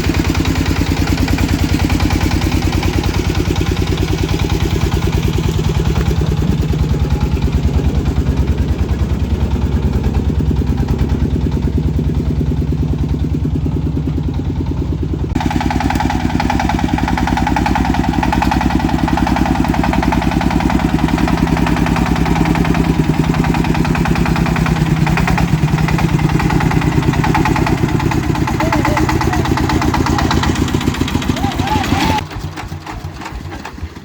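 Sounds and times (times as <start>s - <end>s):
farm truck engine thumping: 0.0s - 34.0s.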